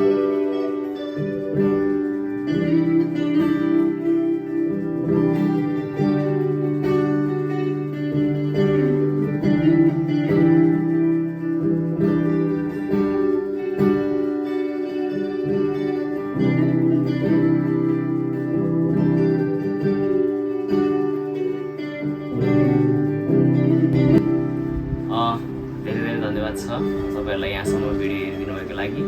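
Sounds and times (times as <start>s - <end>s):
guitar strumming chords: 0.0s - 29.0s.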